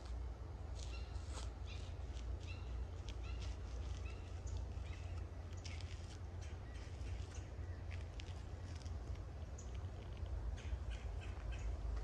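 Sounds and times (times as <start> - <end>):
steady low rumble: 0.0 - 12.0
birds chirping: 0.8 - 12.0.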